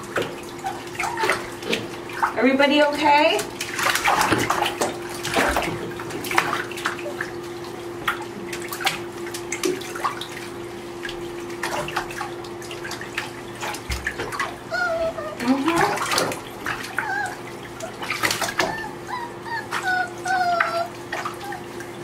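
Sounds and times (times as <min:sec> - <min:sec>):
water splashing in bathtub: 0:00.0 - 0:22.0.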